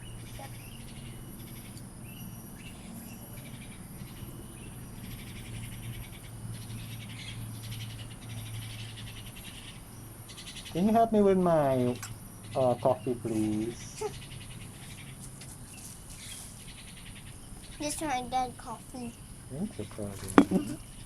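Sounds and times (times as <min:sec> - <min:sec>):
insects chirring: 0:00.0 - 0:21.0
steady low hum: 0:00.0 - 0:21.0.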